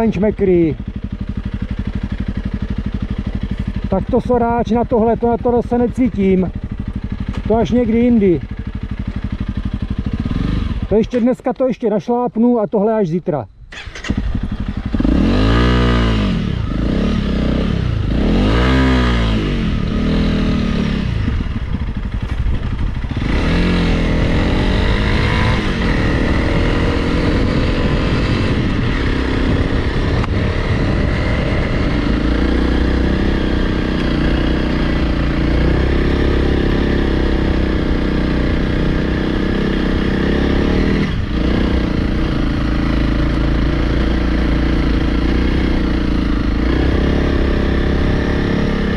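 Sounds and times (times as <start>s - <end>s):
motorcycle engine revving: 0.0s - 12.2s, 13.6s - 48.9s.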